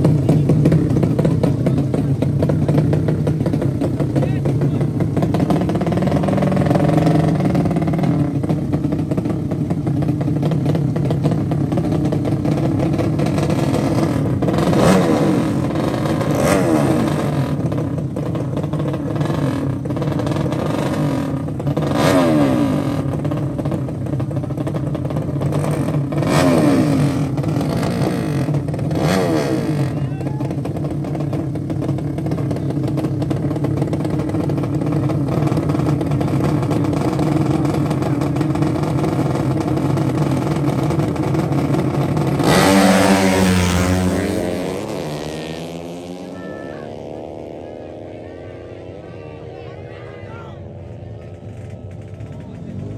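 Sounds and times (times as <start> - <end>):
motorcycle engine running steadily: 0.0 - 52.9
motorcycle engines revving: 0.0 - 52.9.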